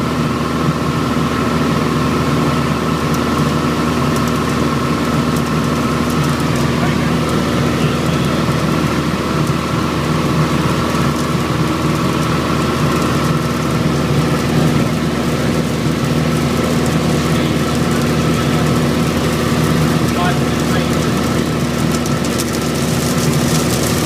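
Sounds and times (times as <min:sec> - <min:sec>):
light aircraft engine drone: 0:00.0 - 0:24.0.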